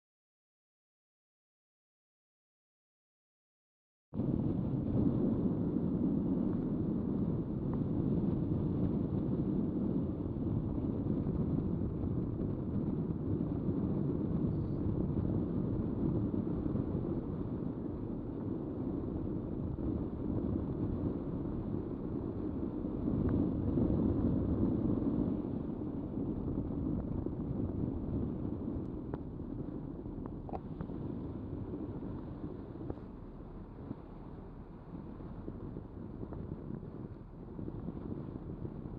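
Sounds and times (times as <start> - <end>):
wind buffeting microphone: 4.2 - 38.9.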